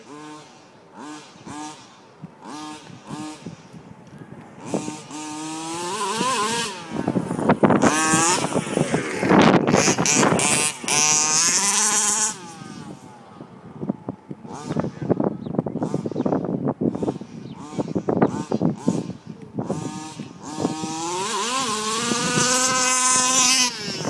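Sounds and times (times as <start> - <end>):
model car engine revving: 0.0 - 3.8, 4.6 - 24.0.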